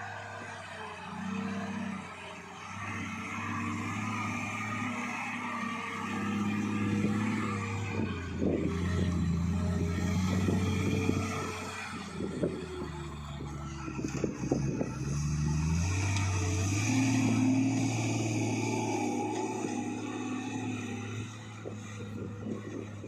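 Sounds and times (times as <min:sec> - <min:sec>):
truck diesel engine under load: 0:00.0 - 0:23.0.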